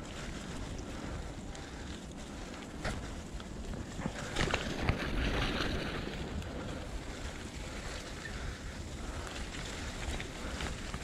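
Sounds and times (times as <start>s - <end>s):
bicycle tyres rolling on leaves: 0.0s - 11.0s
bike rattles and clicks: 0.0s - 11.0s
low wind rumble: 0.0s - 11.0s.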